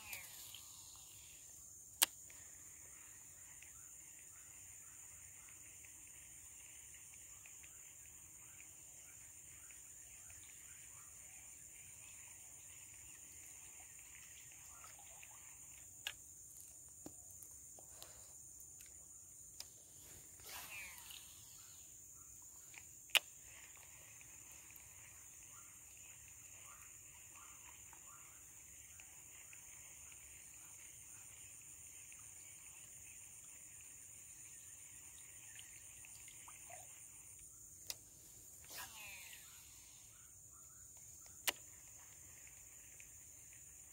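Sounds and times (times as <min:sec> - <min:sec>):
faint ticks: 0:00.0 - 0:43.9
insects droning: 0:00.0 - 0:43.9.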